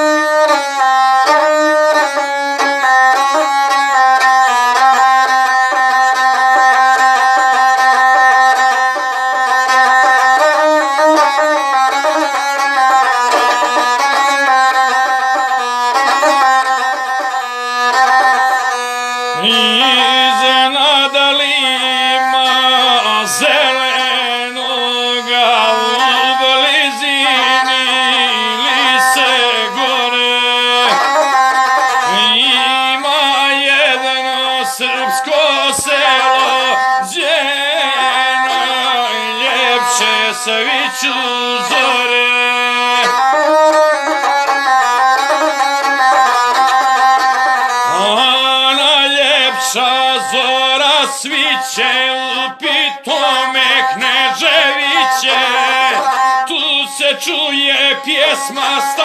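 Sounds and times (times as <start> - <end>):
bowed single-string fiddle melody: 0.0 - 59.0.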